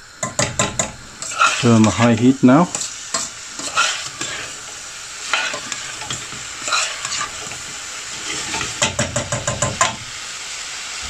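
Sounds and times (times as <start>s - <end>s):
food sizzling in a pan: 0.0s - 11.0s
metal spoon scraping a pan: 0.2s - 10.1s.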